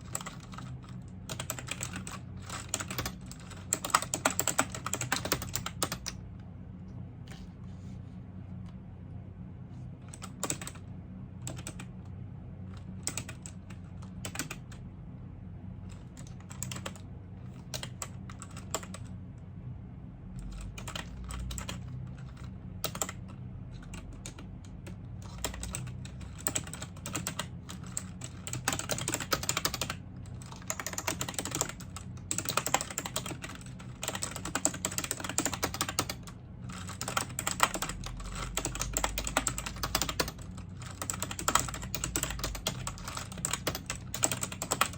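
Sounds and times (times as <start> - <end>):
typing on computer keyboard: 0.0 - 6.2, 10.1 - 10.8, 11.4 - 11.9, 12.8 - 14.8, 15.9 - 17.0, 17.6 - 19.1, 20.4 - 44.9
steady low hum: 0.0 - 44.9.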